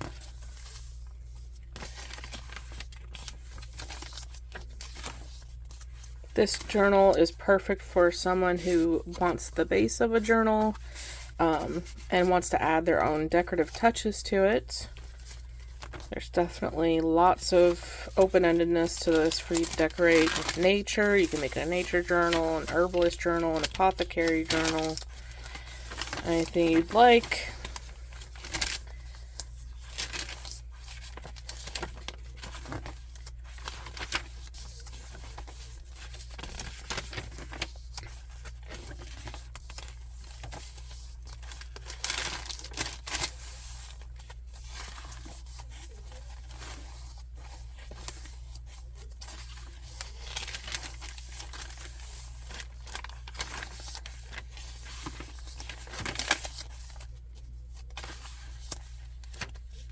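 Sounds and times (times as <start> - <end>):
paper pages rustling: 0.0 - 59.9.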